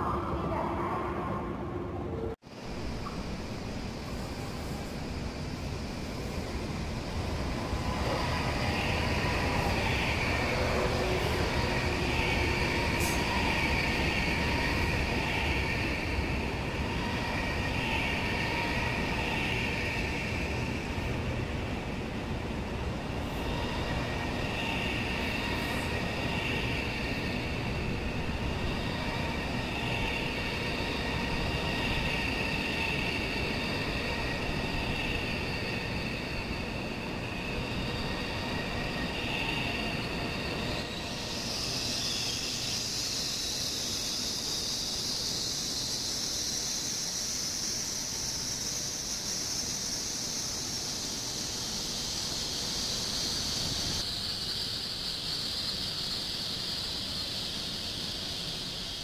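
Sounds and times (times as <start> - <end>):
train wheels rumbling on rail: 2.2 - 59.0.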